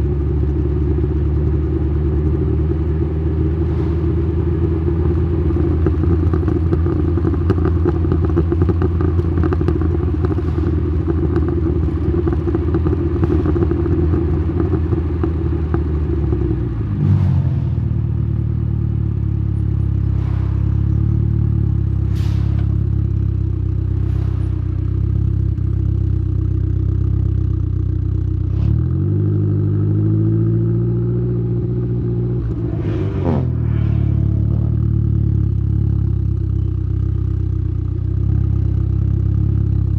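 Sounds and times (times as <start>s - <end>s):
car exhaust while driving: 0.0s - 39.9s.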